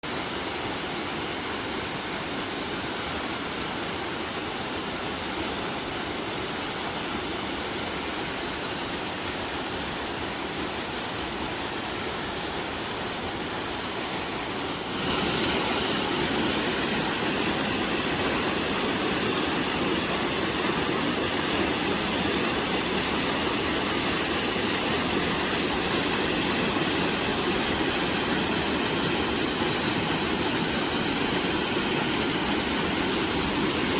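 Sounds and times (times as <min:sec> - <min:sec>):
waterfall and stream rushing: 0:00.0 - 0:33.9.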